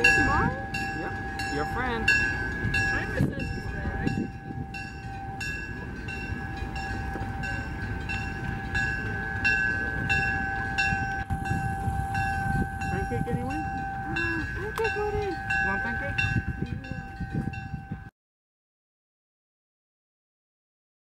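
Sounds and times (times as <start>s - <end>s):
bell ringing: 0.0s - 18.1s
locomotive engine rumble: 0.0s - 18.1s
steady high tone: 0.0s - 18.1s.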